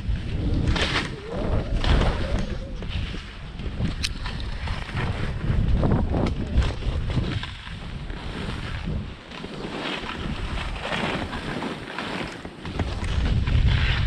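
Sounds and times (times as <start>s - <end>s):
skis scraping over snow: 0.0s - 14.0s
wind rushing over microphone: 0.0s - 14.0s.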